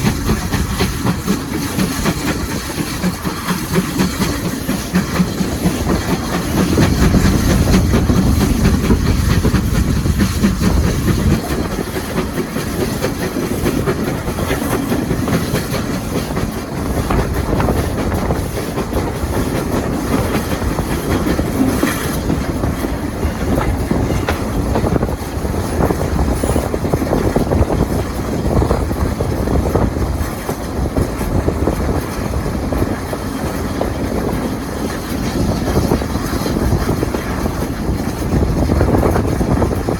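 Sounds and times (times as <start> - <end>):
train running on rails: 0.0 - 39.9
wheel clatter over rail joints: 0.0 - 39.9.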